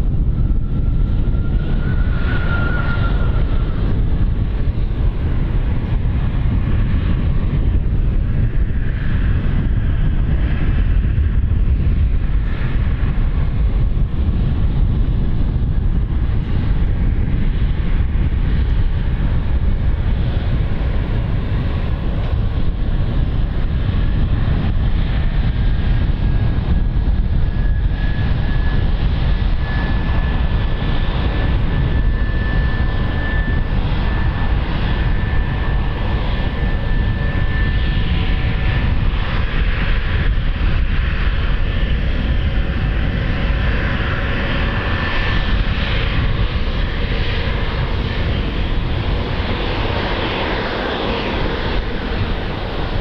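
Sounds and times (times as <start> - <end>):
aircraft engines rumbling: 0.0 - 53.0
wind buffeting microphone: 0.0 - 53.0.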